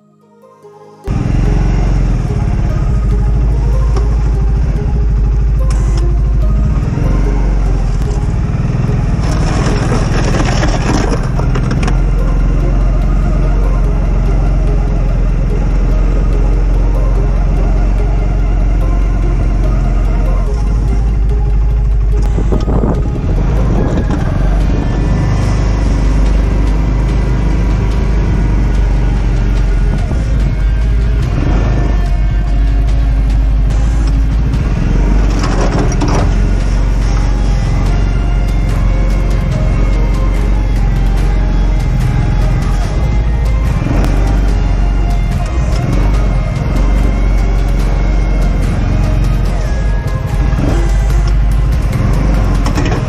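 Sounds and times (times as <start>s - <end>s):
atv engine running under load: 1.1s - 53.0s
plow blade pushing snow: 1.1s - 53.0s.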